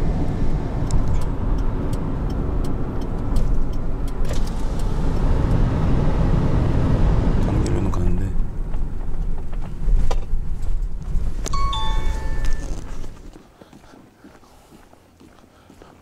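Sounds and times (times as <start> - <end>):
road and engine rumble in car: 0.0 - 13.5.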